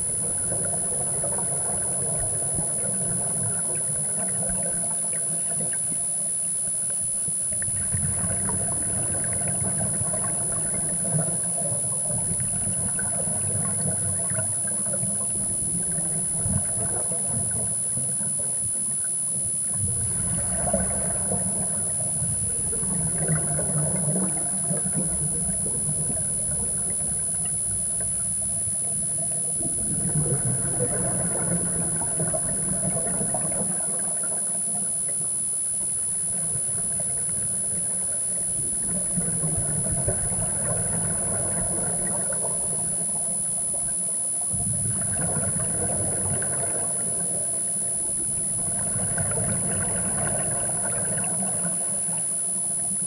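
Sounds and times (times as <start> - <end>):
scuba regulator exhaust bubbles: 0.0 - 53.0
steady high-pitched whine: 0.0 - 53.0.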